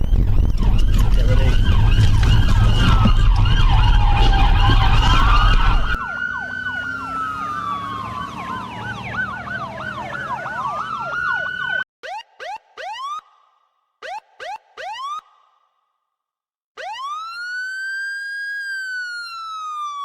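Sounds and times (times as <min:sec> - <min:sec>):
police sirens wailing and yelping: 0:00.0 - 0:13.4, 0:14.0 - 0:15.4, 0:16.8 - 0:20.0.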